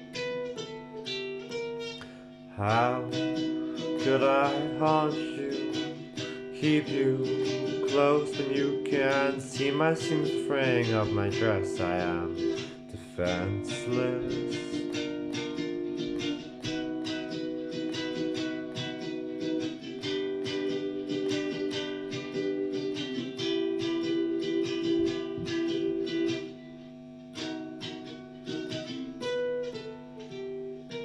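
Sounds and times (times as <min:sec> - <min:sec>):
ukulele strumming: 0:00.0 - 0:31.0.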